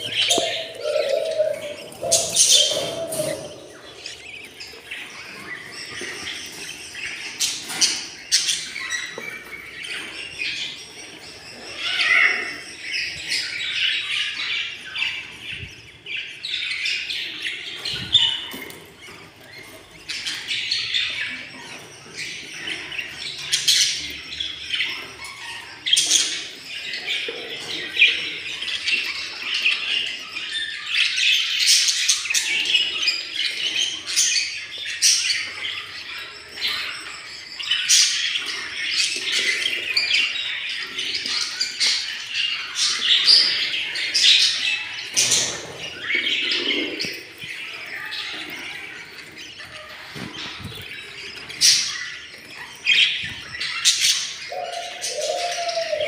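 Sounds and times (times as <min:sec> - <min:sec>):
budgerigar chicks chirping: 0:00.0 - 0:56.0.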